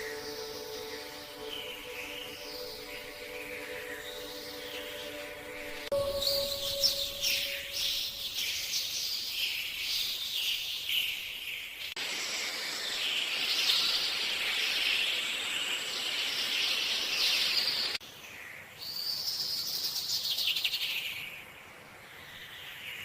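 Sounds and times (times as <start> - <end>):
birds chirping chorus: 0.0 - 23.0.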